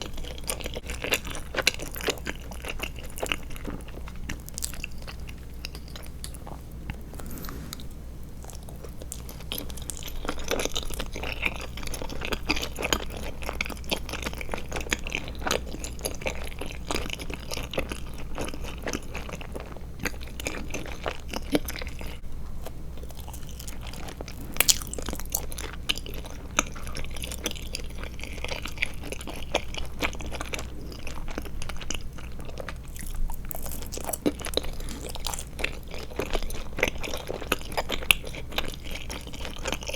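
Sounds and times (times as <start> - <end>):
chewing gummy candy: 0.0 - 6.6, 8.5 - 39.9.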